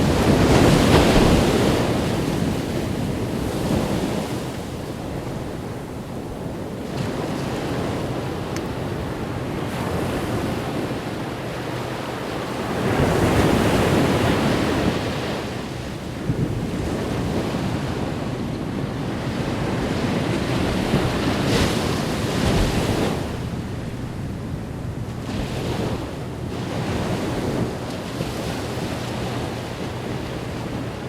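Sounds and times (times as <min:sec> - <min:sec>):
ocean waves breaking on a beach: 0:00.0 - 0:31.0.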